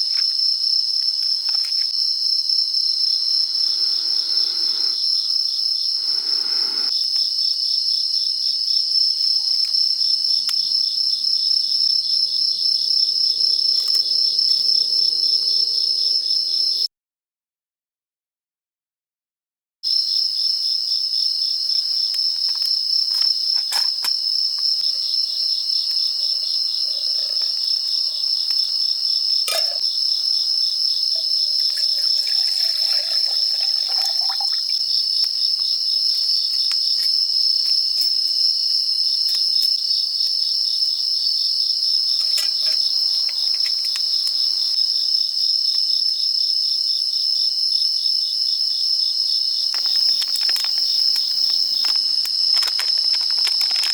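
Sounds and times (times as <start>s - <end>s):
crickets and insects trilling: 0.0s - 16.9s, 19.9s - 53.9s.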